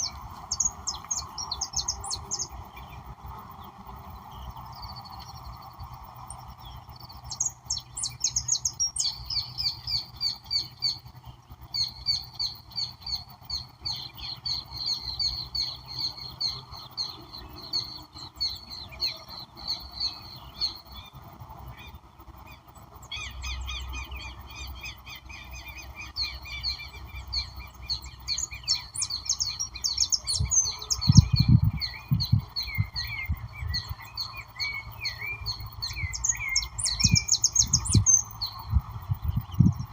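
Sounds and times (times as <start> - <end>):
background hiss: 0.0 - 39.9
songbirds chirping and trilling: 0.0 - 39.9.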